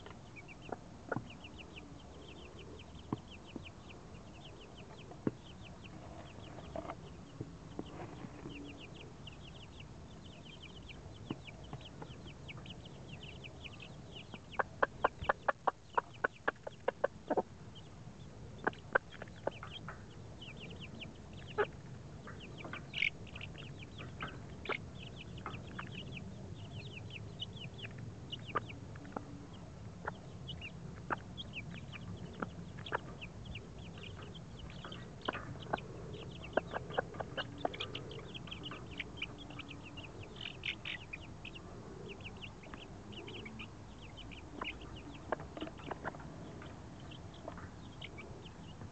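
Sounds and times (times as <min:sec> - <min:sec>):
chicks pecking taps: 0:00.0 - 0:01.8, 0:02.8 - 0:12.9, 0:14.2 - 0:17.4, 0:18.6 - 0:43.3, 0:44.0 - 0:48.9
chicks peeping: 0:00.0 - 0:48.9.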